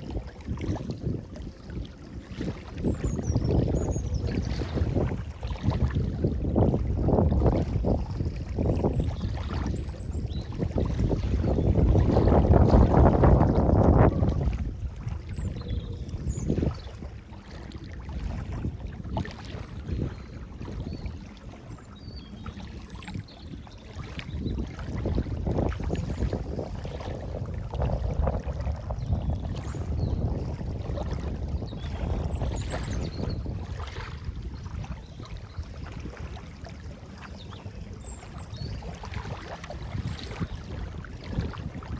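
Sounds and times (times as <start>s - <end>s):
water lapping at shore: 0.0s - 41.9s
wind rumble on microphone: 0.0s - 41.9s.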